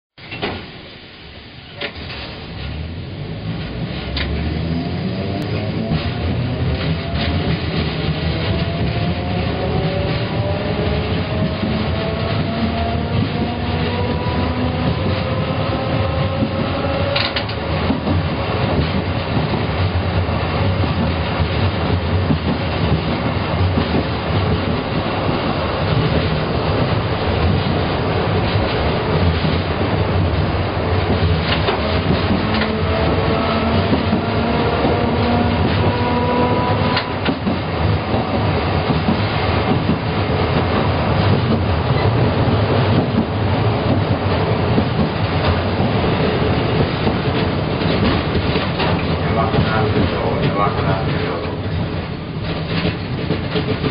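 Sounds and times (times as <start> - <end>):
tram motor hum and whine: 0.2 - 53.9.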